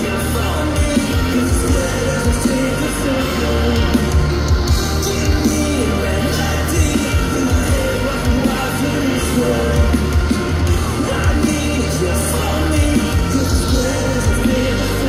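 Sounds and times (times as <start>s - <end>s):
live rock band playing: 0.0s - 15.0s
vocalist singing and shouting: 0.0s - 15.0s.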